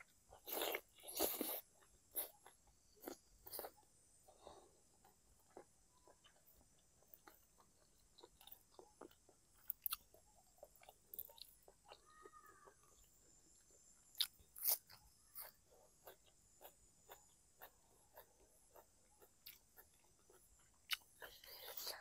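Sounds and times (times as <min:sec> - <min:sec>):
crunchy bites of greens: 0:00.0 - 0:03.8, 0:05.0 - 0:22.0
person chewing: 0:00.0 - 0:22.0.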